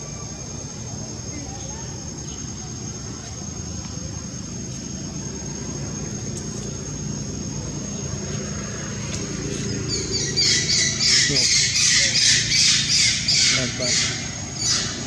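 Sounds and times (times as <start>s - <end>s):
distant engine drone: 0.0s - 15.0s
high insect buzz: 0.0s - 15.0s.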